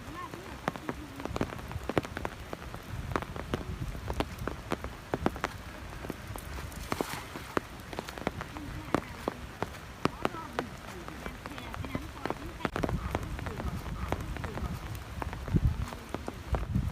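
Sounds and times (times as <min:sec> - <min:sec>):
rain hissing: 0:00.0 - 0:16.9
single raindrops hitting close: 0:00.0 - 0:16.9.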